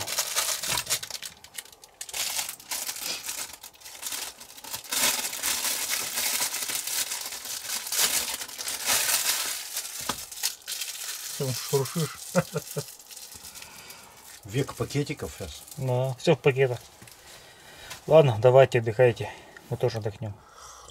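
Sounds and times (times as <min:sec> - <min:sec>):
plastic bags crinkling: 0:00.0 - 0:18.2.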